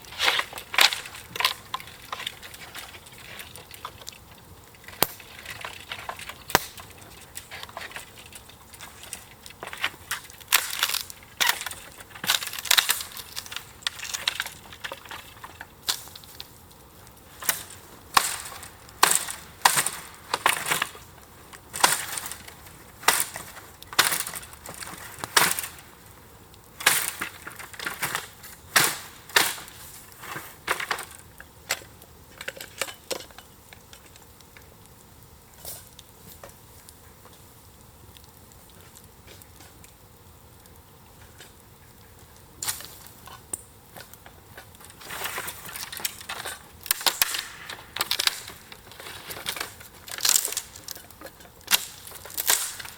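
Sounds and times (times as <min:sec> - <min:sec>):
dry wood cracking and snapping: 0:00.0 - 0:52.9.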